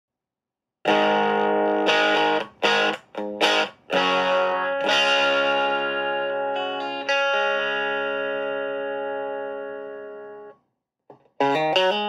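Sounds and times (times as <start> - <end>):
electric guitar chords: 0.9 - 10.5, 11.4 - 12.0.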